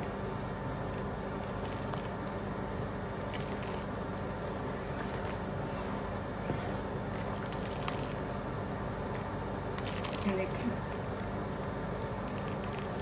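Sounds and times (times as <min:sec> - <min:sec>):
soup bubbling in a pot: 0:00.1 - 0:05.0, 0:06.2 - 0:13.0.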